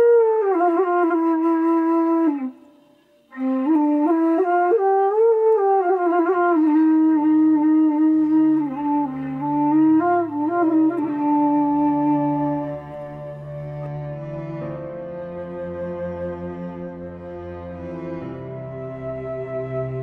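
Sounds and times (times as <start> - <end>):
plaintive wind instrument melody: 0.0 - 20.0.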